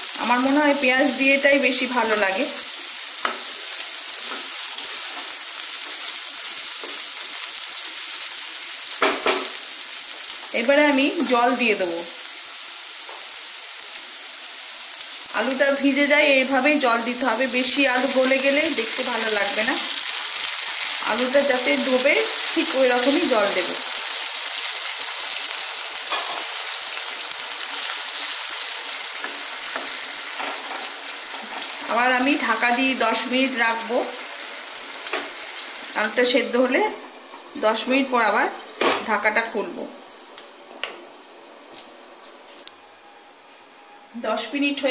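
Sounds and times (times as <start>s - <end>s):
potatoes sizzling in oil: 0.0s - 42.7s.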